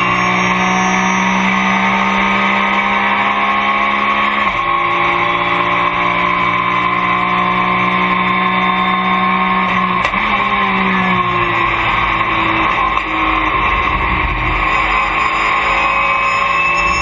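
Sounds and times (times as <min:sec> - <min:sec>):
race car engine high revs: 0:00.0 - 0:17.0.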